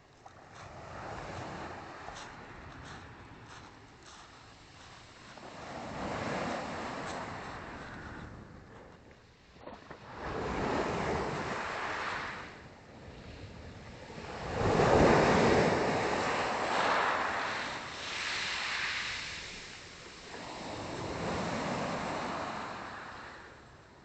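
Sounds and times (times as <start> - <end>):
small waves washing onto shore: 0.0 - 9.0, 9.7 - 23.8.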